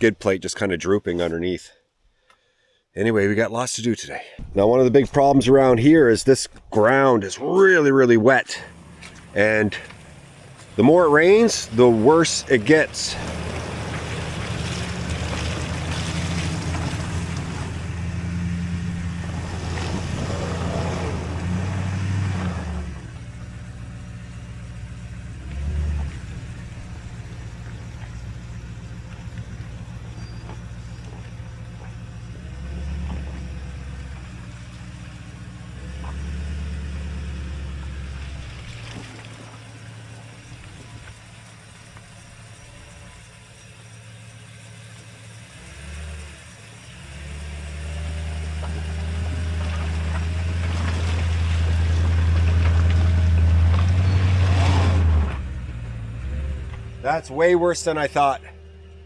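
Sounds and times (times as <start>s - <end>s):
truck engine running: 4.4s - 59.0s
engine revs: 6.8s - 59.0s.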